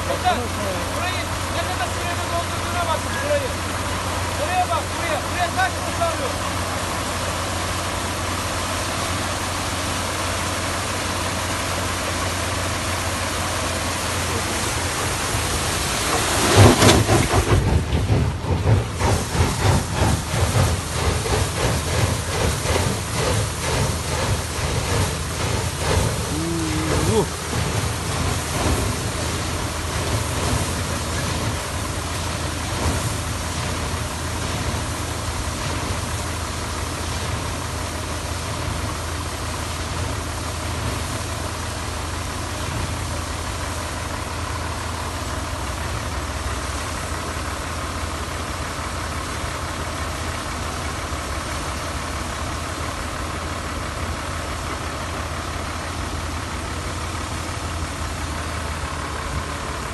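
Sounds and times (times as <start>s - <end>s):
drilling rig engine hum: 0.0s - 59.9s
water hissing and splashing: 0.0s - 59.9s.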